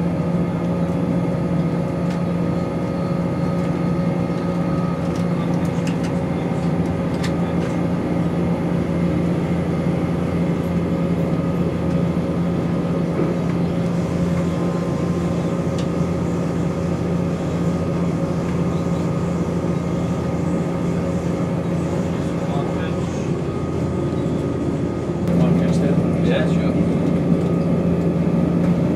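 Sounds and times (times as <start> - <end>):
diesel engine drone: 0.0 - 28.9
train whine: 0.0 - 28.9.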